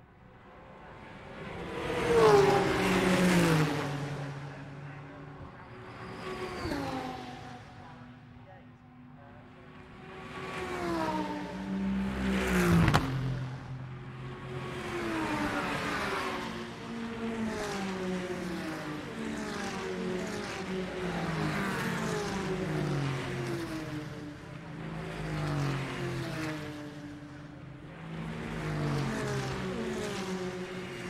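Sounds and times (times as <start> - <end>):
race cars passing by: 0.3 - 31.0.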